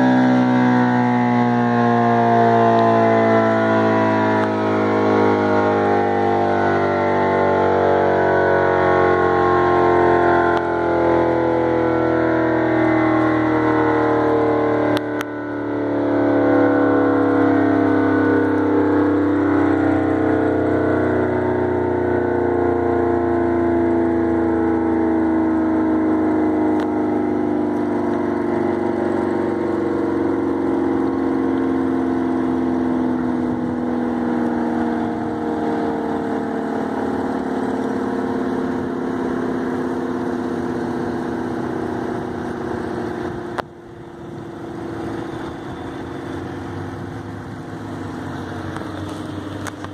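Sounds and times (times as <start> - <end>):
warning siren winding down: 0.0 - 49.9.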